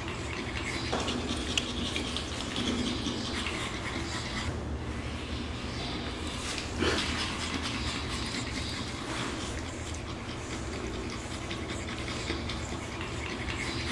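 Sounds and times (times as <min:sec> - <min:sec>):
puppies snuffling and panting: 0:00.0 - 0:13.9.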